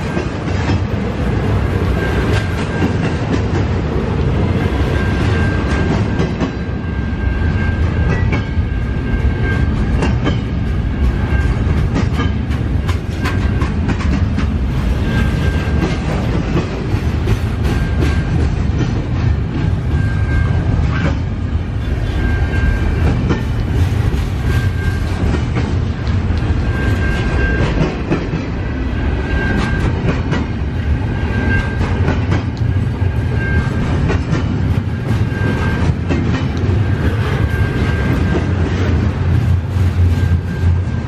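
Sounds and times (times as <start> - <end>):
freight train wheels rumbling: 0.0 - 41.0
wheels clacking on rail: 0.0 - 41.0.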